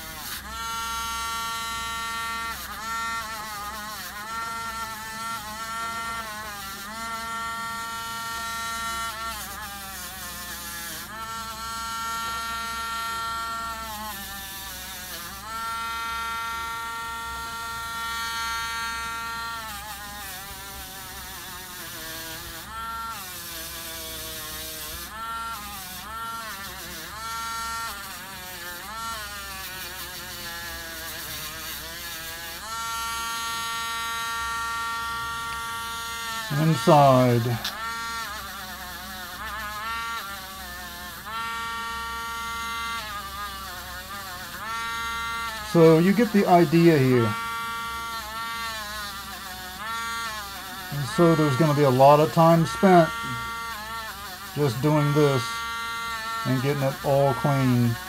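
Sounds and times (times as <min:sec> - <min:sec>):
rotary tool motor whine: 0:00.0 - 0:58.0.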